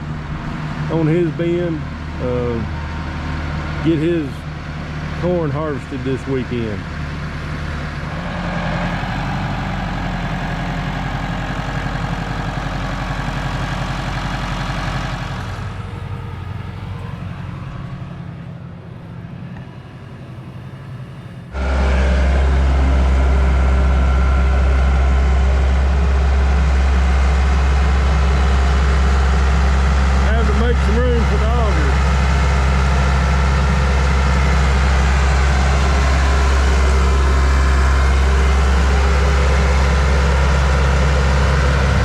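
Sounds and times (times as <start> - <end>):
engine idling close by: 0.0 - 42.0
heavy vehicle engine running: 0.0 - 42.0.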